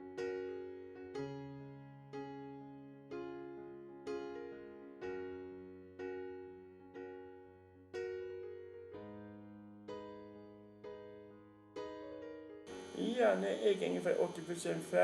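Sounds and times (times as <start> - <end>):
soft electric piano chords: 0.0 - 15.0.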